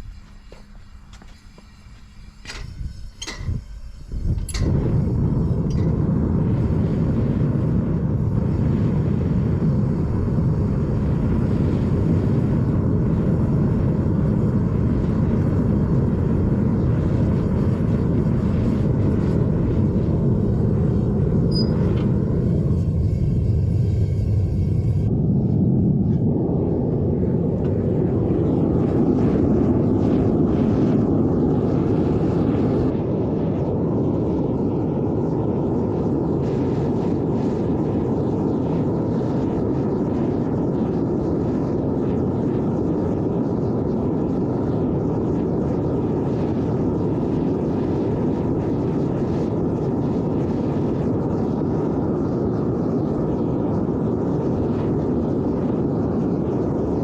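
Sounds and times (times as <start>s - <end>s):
furnace burner roaring: 0.0s - 57.0s.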